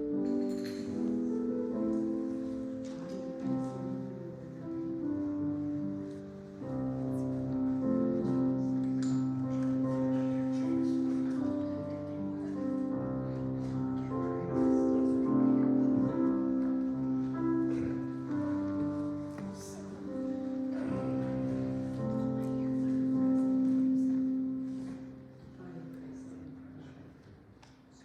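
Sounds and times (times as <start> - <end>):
slow keyboard chords: 0.0 - 26.4.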